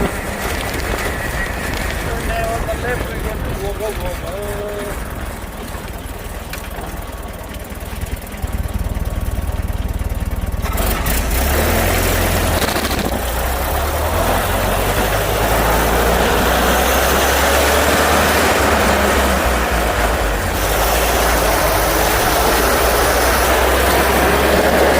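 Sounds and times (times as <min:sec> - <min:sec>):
car engine running: 0:00.0 - 0:24.9
wind and road noise: 0:00.0 - 0:24.9.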